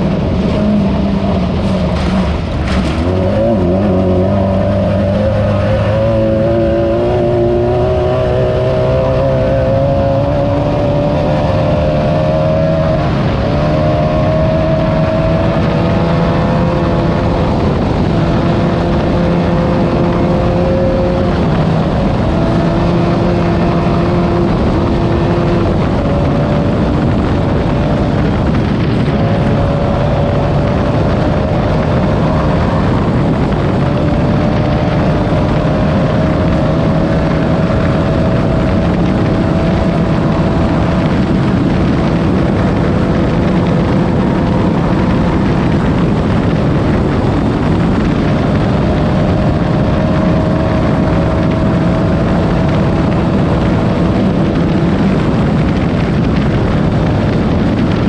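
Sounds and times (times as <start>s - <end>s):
race buggy engine running hard: 0.0s - 58.0s
rough rumble from car: 0.0s - 58.0s.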